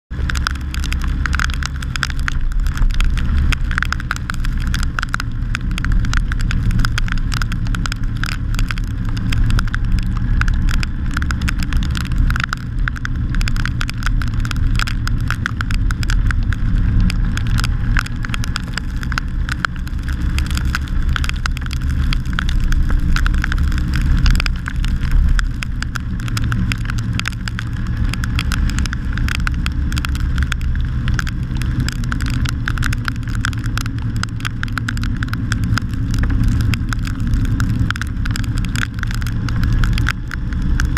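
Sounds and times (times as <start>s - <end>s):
raindrops ticking on camera: 0.1s - 40.9s
road noise: 0.1s - 40.9s
wind rumble: 0.1s - 40.9s.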